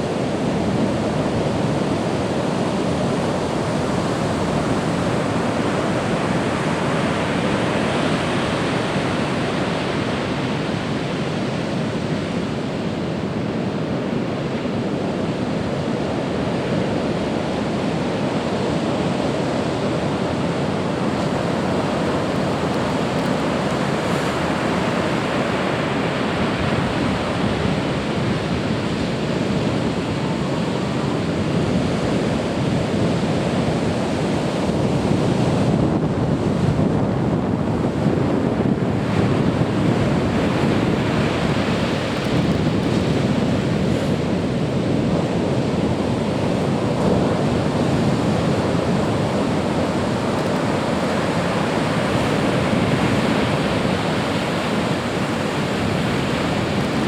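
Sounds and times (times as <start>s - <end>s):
surf breaking on beach: 0.0s - 57.0s
wind rumbling on microphone: 0.0s - 57.0s.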